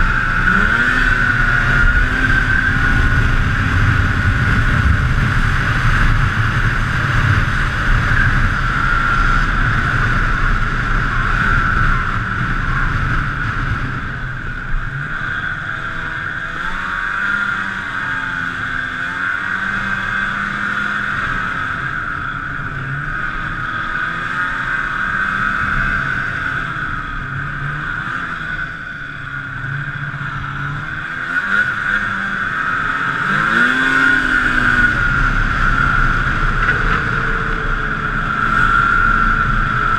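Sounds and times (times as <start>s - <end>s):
snowmobile engine running: 0.0s - 39.9s
steady high whine: 0.0s - 39.9s.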